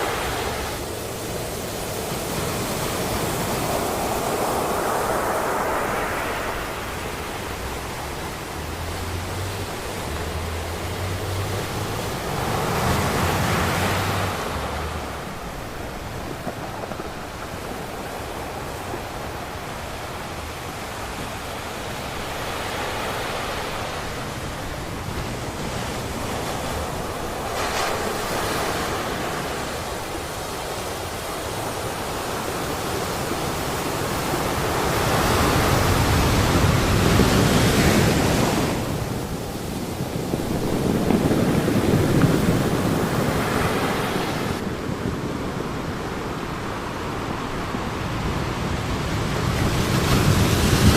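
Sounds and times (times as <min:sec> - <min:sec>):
ocean waves breaking: 0:00.0 - 0:50.9.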